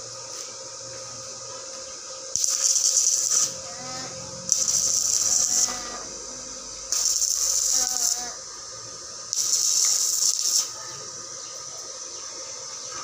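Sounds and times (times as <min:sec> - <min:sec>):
arc welding crackle and hiss: 0:00.0 - 0:13.0.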